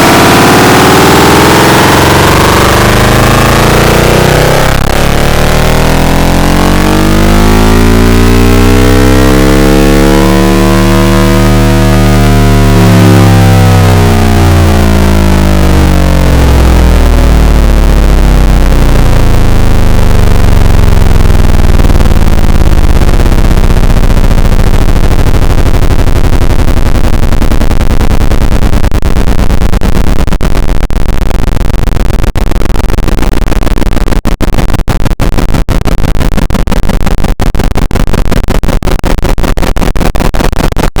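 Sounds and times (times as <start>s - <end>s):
distorted bass-boosted roar: 0.0s - 41.0s.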